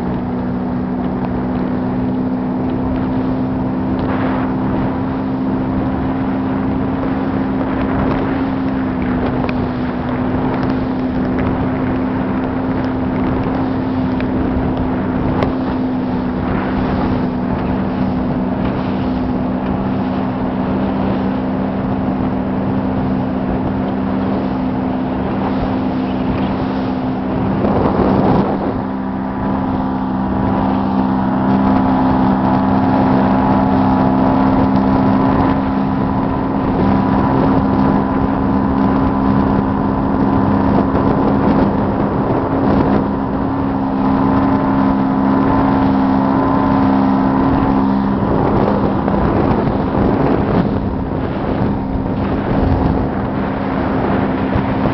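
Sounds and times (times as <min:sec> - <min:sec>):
motorboat engine humming: 0:00.0 - 0:54.9
water rushing: 0:00.0 - 0:54.9
wind noise: 0:00.0 - 0:54.9.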